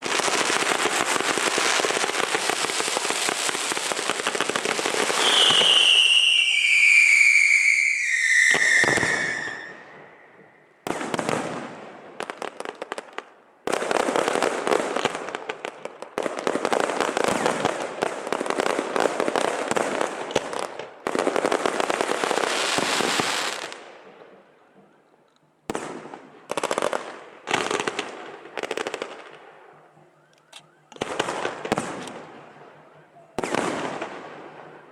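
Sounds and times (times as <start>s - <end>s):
whistling firework: 0.0s - 11.8s, 16.2s - 34.9s
firecrackers crackling: 0.0s - 34.9s.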